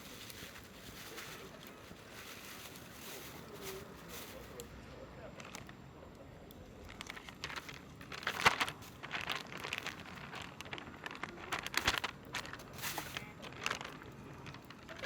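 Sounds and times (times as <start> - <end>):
rustling crinkling handling noise: 0.0 - 5.8, 6.6 - 15.0.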